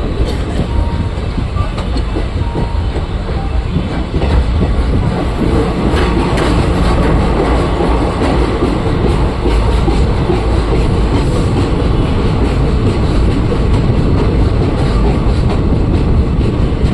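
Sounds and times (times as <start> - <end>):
train rumbling on rails: 0.0 - 16.9.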